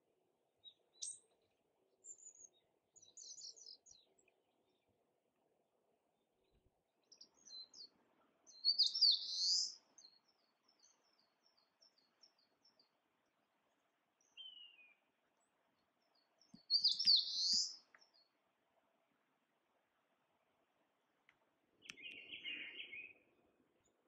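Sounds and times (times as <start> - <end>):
songbird singing: 0.6 - 5.0, 6.2 - 18.6, 21.0 - 24.0.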